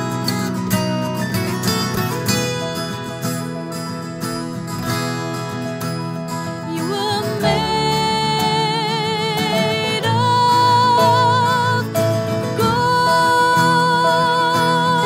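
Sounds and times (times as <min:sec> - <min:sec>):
acoustic guitar accompaniment: 0:00.0 - 0:15.0
slow melody with vibrato: 0:00.0 - 0:15.0.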